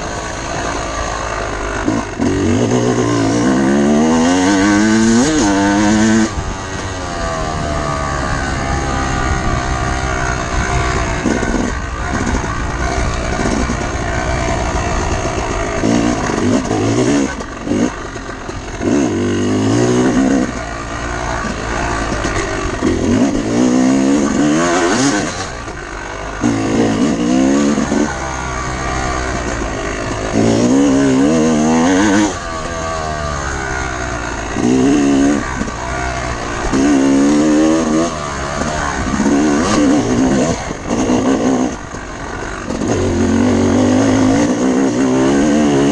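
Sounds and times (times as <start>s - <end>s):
motorcycle engine revving: 0.0s - 45.9s
wind and riding noise: 0.0s - 45.9s.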